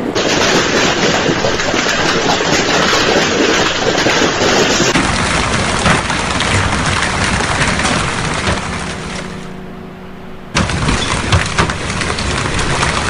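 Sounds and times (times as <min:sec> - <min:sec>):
hailstones clattering: 0:00.0 - 0:09.3, 0:10.6 - 0:13.0.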